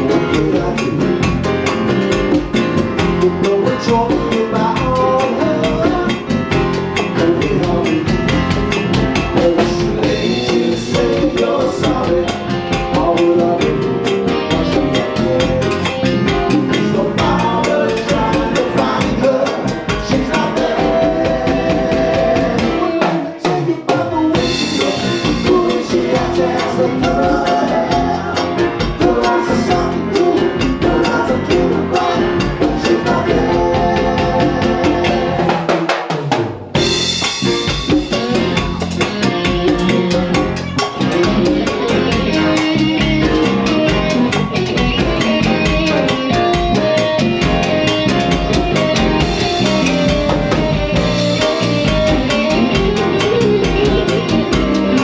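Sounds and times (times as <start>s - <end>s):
band playing salsa music: 0.0s - 55.0s.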